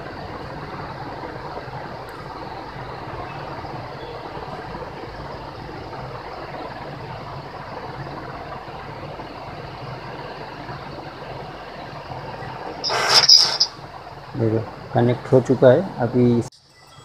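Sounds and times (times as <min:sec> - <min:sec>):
low hum: 0:00.0 - 0:15.2
steady hiss: 0:00.0 - 0:16.5.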